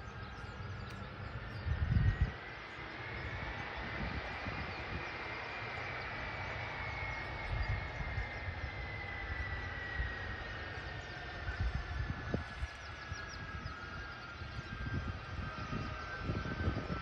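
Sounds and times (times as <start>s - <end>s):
high engine whine falling in pitch: 0.0s - 17.0s
jet engines running: 0.0s - 17.0s.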